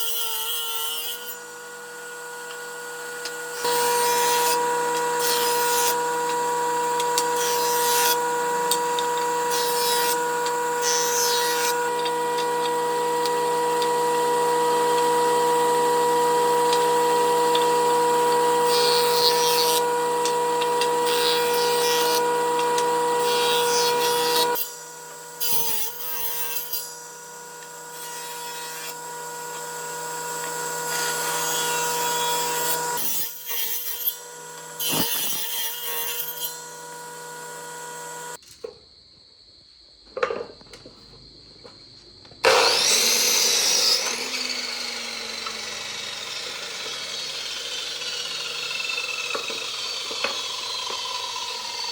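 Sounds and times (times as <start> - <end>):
power tool whining: 0.0 - 38.4, 42.4 - 51.9.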